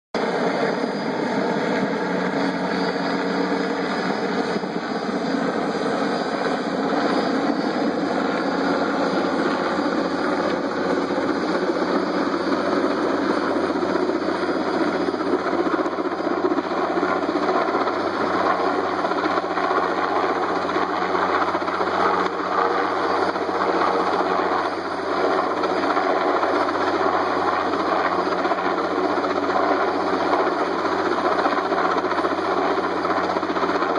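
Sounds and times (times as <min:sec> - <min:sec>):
helicopter rotor and engine: 0:00.2 - 0:33.9.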